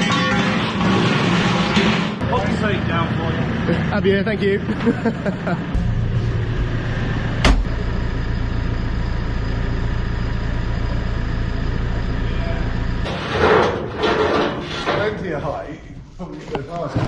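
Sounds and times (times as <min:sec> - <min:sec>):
machine engine humming: 0:01.4 - 0:16.6.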